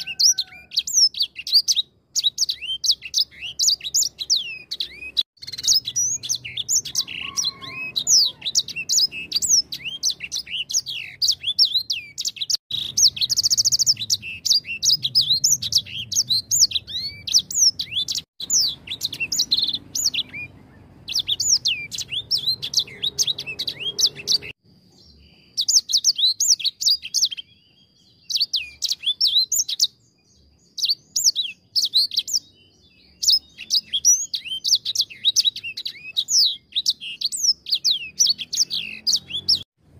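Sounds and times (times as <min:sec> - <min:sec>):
songbird twittering and trilling: 0:00.0 - 0:39.8.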